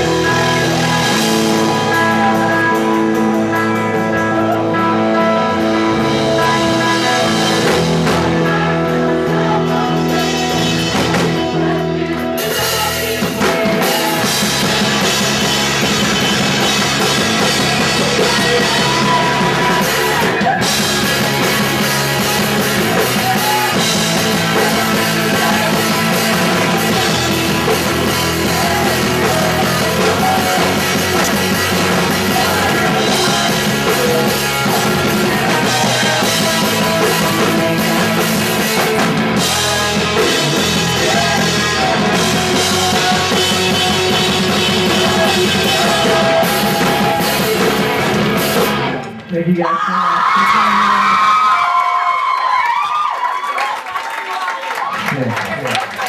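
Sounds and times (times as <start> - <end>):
punk rock band playing loud: 0.0 - 49.3
electric guitar: 0.0 - 50.4
drums: 0.0 - 56.0.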